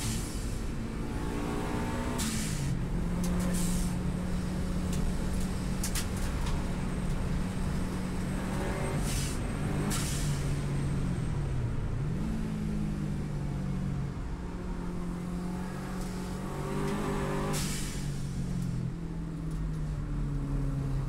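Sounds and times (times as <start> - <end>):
car engine at speed: 0.0 - 21.0.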